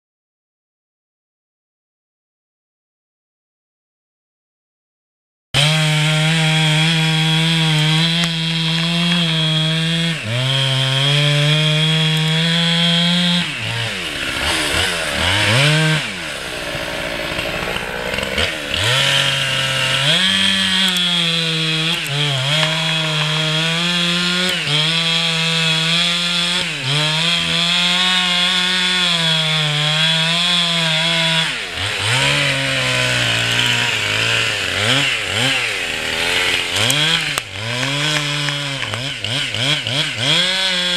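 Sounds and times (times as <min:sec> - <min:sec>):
chainsaw cutting wood: 0:05.6 - 0:40.9.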